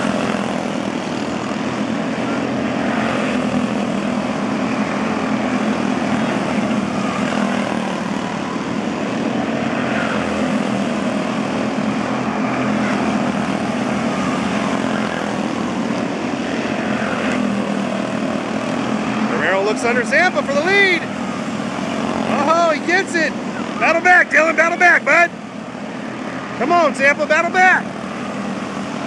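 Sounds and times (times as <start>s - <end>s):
race car engines buzzing: 0.0s - 29.0s.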